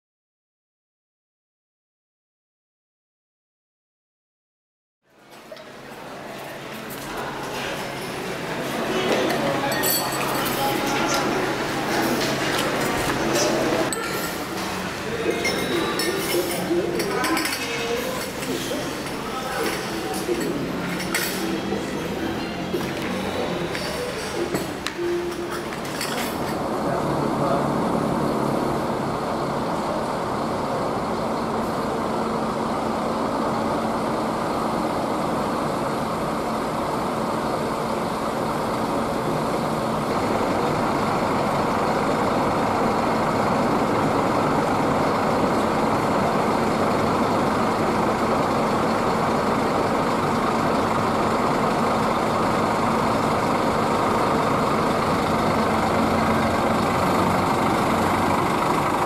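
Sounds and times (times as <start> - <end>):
diesel engine idling: 5.1 - 59.0.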